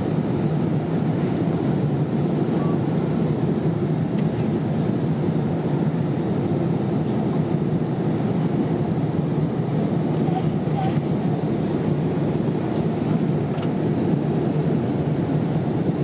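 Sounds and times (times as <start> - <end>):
airliner cabin engine drone: 0.0 - 16.0.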